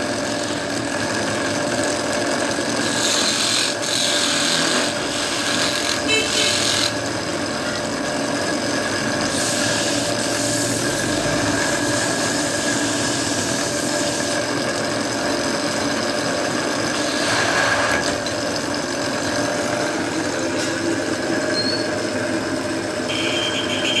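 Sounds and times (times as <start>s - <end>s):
chisel cutting spinning wood: 0.0s - 22.8s
wood lathe humming: 0.0s - 23.8s.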